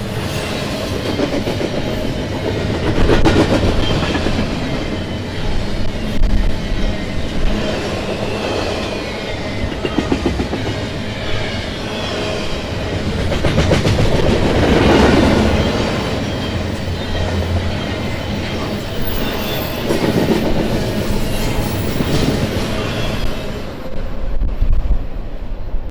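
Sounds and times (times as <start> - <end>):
freight train cars rolling past: 0.0 - 25.8.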